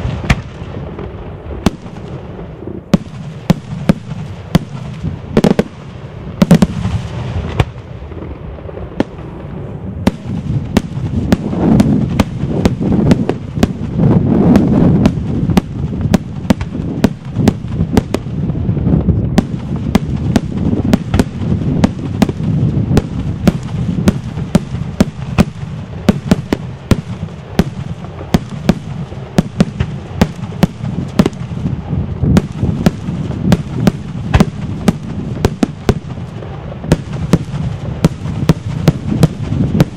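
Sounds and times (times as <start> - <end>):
fireworks bangs: 0.0 - 39.9
low rumble of detonations: 0.0 - 39.9.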